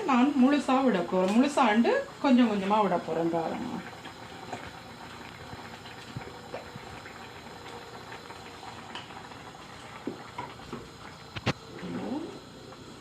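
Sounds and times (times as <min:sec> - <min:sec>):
soup simmering and bubbling: 0:02.0 - 0:13.0.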